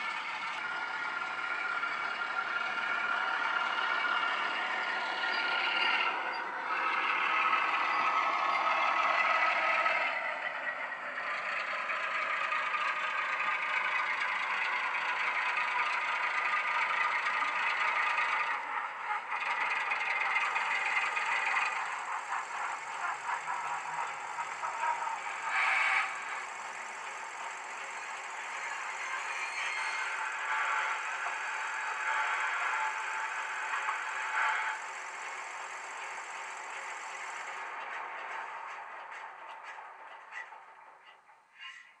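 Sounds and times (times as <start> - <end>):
model diesel locomotive engine: 0.0 - 42.0.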